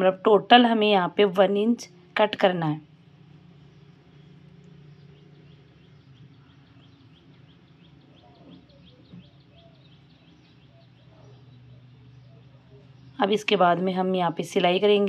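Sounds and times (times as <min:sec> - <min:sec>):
low steady hum: 0:00.0 - 0:15.0
bird chirping faintly: 0:02.9 - 0:15.0.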